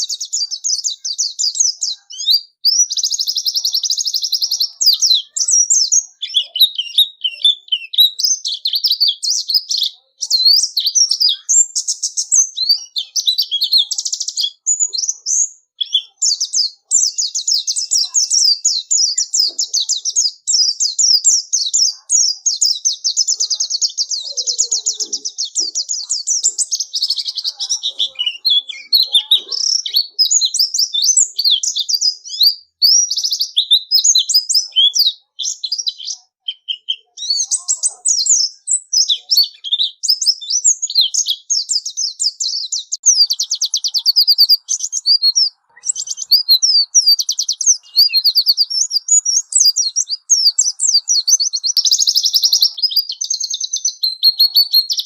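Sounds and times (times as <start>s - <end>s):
bird warbling song: 0.0s - 55.0s.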